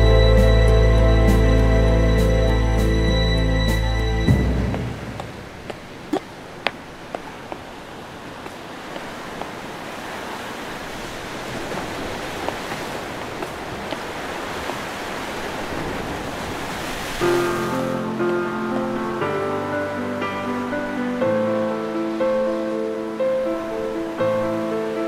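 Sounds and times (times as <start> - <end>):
surf on rocky shore: 4.3 - 25.0.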